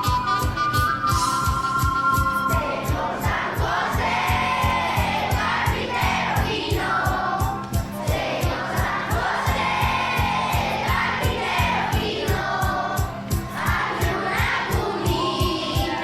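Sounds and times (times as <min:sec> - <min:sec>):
voices singing: 0:01.3 - 0:16.0.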